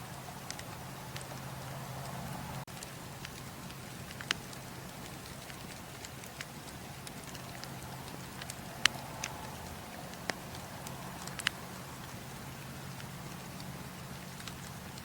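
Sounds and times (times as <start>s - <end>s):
campfire crackling: 0.0s - 15.0s
sharp pops of burning wood: 0.4s - 15.0s.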